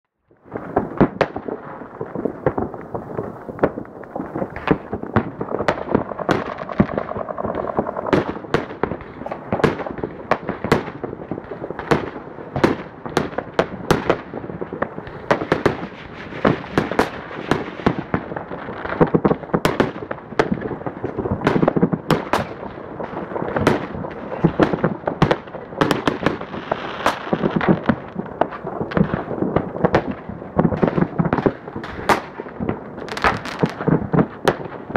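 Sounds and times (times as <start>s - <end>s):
firecrackers crackling: 0.2s - 34.9s
fireworks banging: 0.4s - 34.9s.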